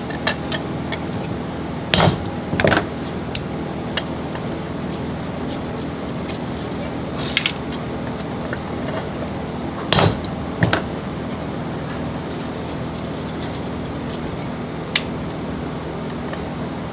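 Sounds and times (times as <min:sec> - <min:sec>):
workshop machinery hum: 0:00.0 - 0:16.9.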